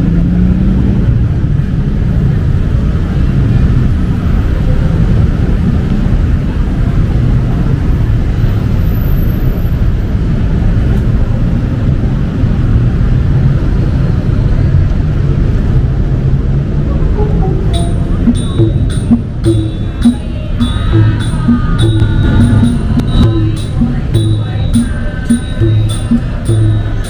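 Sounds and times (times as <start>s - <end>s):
low rumble of road traffic: 0.0s - 27.0s.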